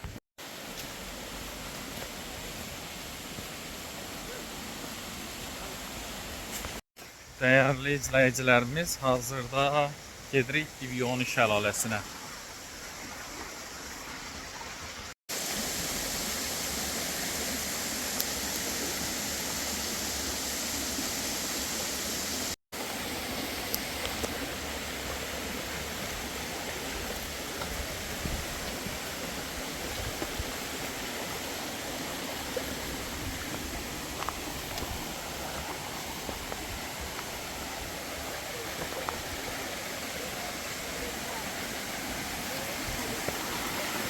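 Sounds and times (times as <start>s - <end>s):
flowing water rushing: 0.0s - 44.0s.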